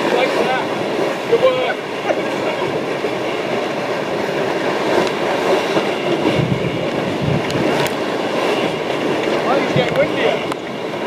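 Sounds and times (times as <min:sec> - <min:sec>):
water rushing past hull: 0:00.0 - 0:11.0
wind buffeting microphone: 0:00.0 - 0:11.0.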